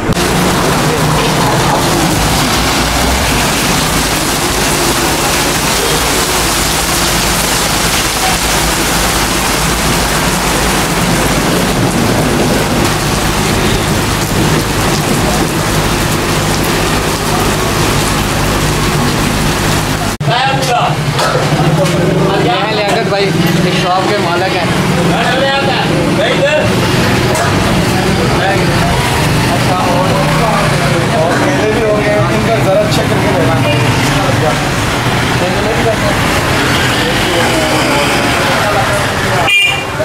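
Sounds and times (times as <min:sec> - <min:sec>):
rain falling on wet street: 0:00.0 - 0:40.0.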